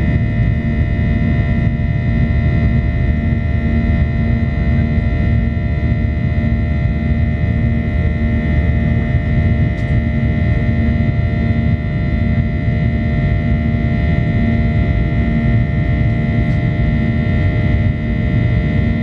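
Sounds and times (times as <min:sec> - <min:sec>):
low hum pulsing: 0:00.0 - 0:19.0.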